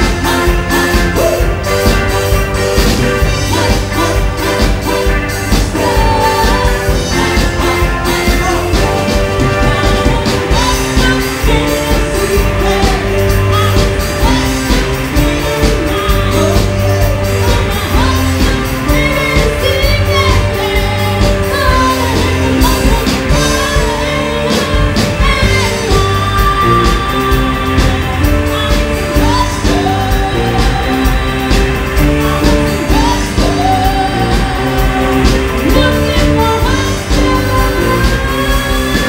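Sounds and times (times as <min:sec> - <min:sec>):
live pop band playing: 0:00.0 - 0:39.0
woman singing: 0:00.0 - 0:39.0.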